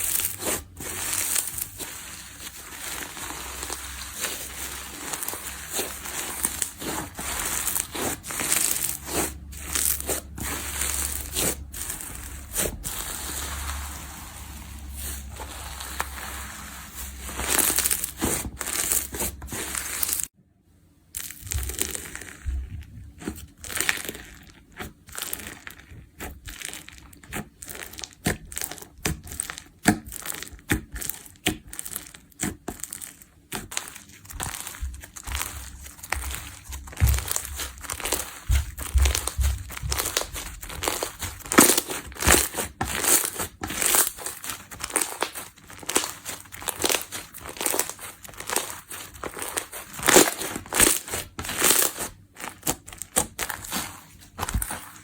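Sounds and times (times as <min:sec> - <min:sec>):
slime crackling and popping: 0:00.0 - 0:20.3, 0:21.2 - 0:55.0.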